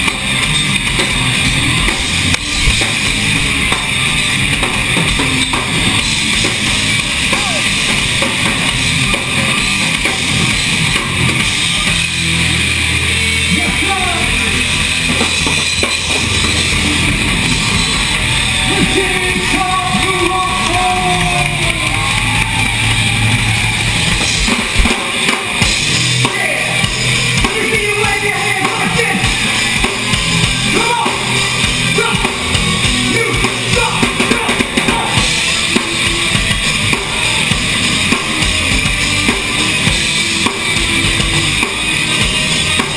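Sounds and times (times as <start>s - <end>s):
drum kit with cymbals: 0.0s - 42.9s
electric guitars: 0.0s - 42.9s
low bass notes: 0.0s - 42.9s
rock band playing live: 0.0s - 42.9s.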